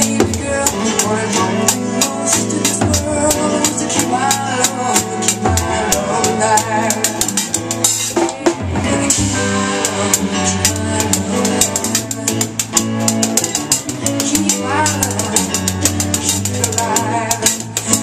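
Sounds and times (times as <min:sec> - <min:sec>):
drum kit playing a beat: 0:00.0 - 0:18.0
recorded rock song: 0:00.0 - 0:18.0.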